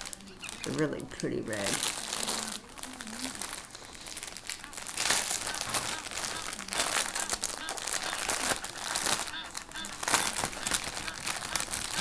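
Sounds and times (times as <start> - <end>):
crinkly packaging rustling: 0.0 - 12.0.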